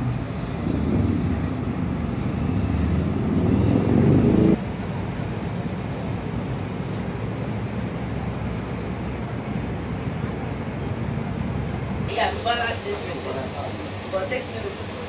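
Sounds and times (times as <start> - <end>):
engine running: 0.0 - 15.0
steady background hum: 0.4 - 15.0.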